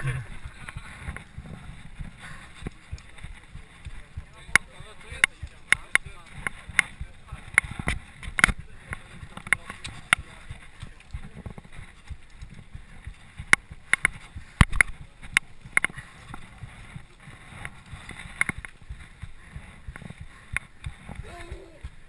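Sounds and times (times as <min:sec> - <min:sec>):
bike clicks and knocks on gravel: 0:02.5 - 0:22.0.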